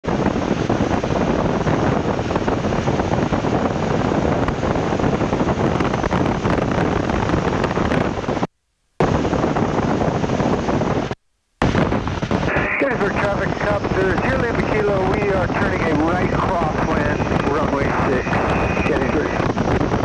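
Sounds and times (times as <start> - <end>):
wind buffeting microphone: 0.0 - 20.0
radial aircraft engine running: 0.1 - 20.0.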